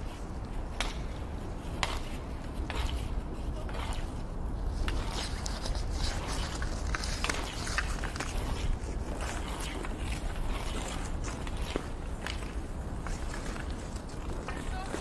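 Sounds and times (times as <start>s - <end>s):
hockey sticks clacking and scraping: 0.6s - 15.0s.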